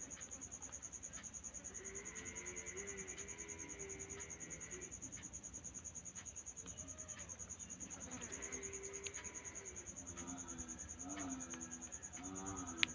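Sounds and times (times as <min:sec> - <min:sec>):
faint clicks: 0:00.0 - 0:12.9
insects chirping: 0:00.0 - 0:12.9.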